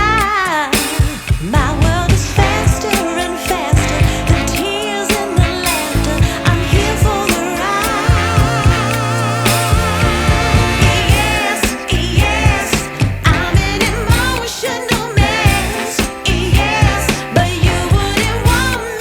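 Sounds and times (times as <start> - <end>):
pop music with sung vocal: 0.0 - 19.0.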